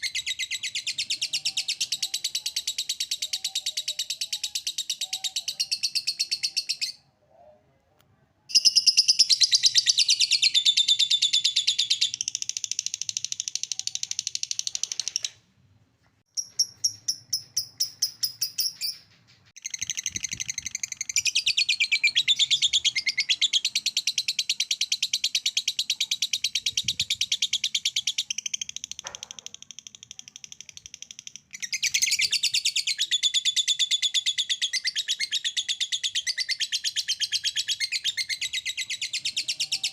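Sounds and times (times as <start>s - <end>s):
bird chirps: 0.0s - 7.5s, 8.5s - 15.4s, 16.3s - 39.9s.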